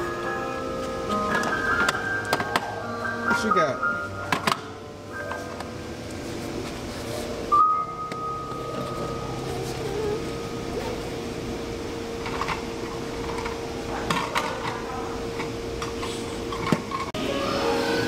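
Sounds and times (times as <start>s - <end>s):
steady electronic hum: 0.0s - 18.0s.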